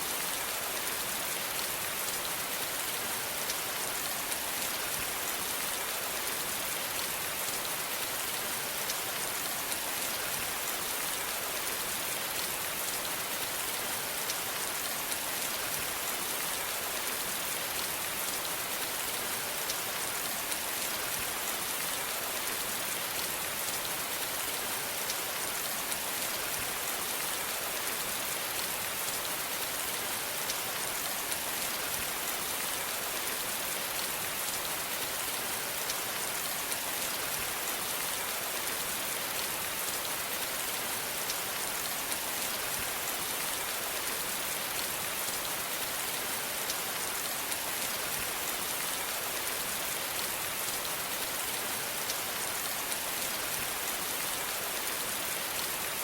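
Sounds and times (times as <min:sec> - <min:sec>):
rain patter on a surface: 0:00.0 - 0:56.0.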